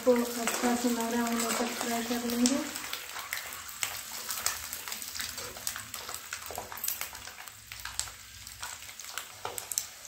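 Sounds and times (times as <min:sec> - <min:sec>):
eggs frying in hot oil: 0:00.0 - 0:10.0.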